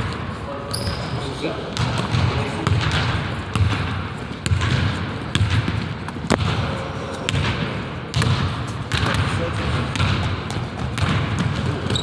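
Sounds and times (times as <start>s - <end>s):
basketball bouncing on wooden floor: 1.8s - 12.0s.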